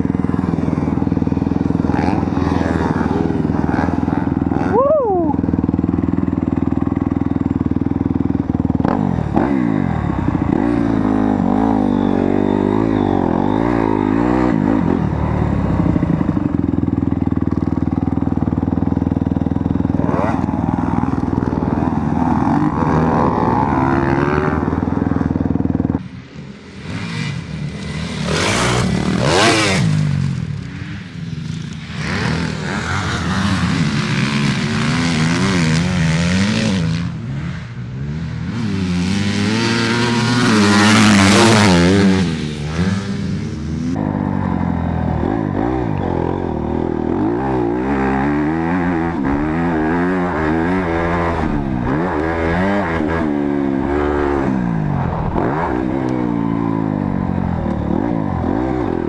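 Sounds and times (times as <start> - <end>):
dirt bike engines revving: 0.0 - 59.0
dirt bike passing close: 0.0 - 59.0.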